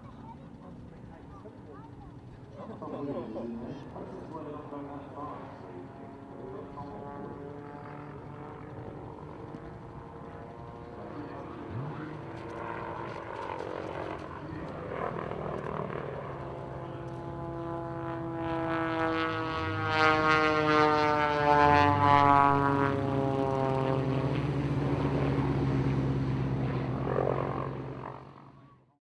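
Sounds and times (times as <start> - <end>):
low engine hum: 0.0 - 28.8
propeller aircraft flying past: 0.0 - 29.0.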